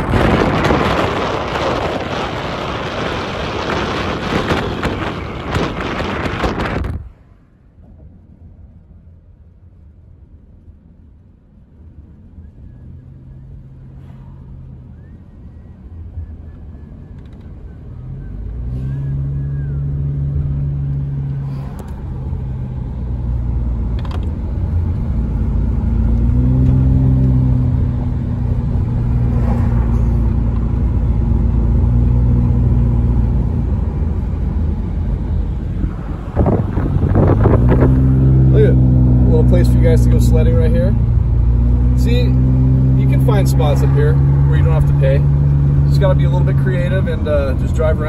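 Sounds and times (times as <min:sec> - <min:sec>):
car engine hum: 0:00.0 - 0:48.0
tyre and road noise: 0:00.0 - 0:48.0.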